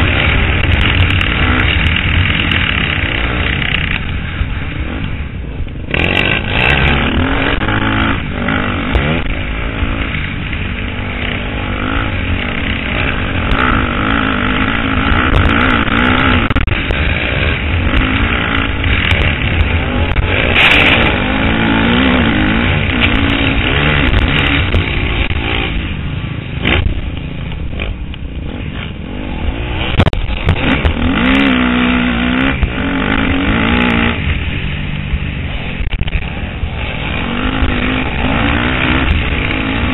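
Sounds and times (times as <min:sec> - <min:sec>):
motocross engine revving: 0:00.0 - 0:05.2, 0:05.8 - 0:34.7, 0:35.5 - 0:39.9.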